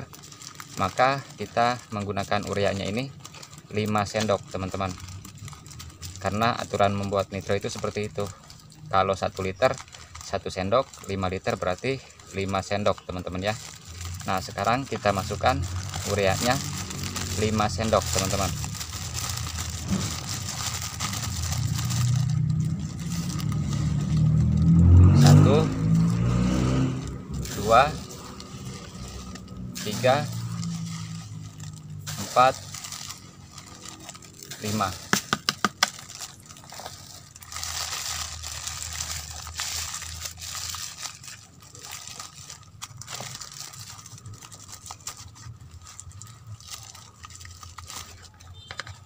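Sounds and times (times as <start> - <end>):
plastic bag rustling: 0.0 - 49.0.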